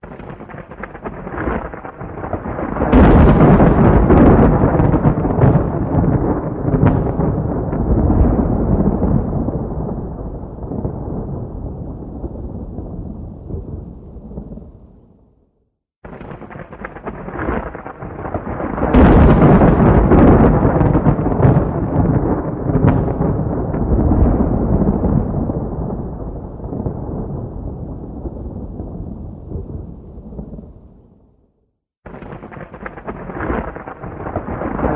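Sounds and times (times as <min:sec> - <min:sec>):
thunder rumbling: 0:00.0 - 0:15.3, 0:16.0 - 0:31.4, 0:32.0 - 0:34.9
thunder crackles: 0:00.0 - 0:15.4, 0:16.0 - 0:31.4, 0:32.0 - 0:34.9.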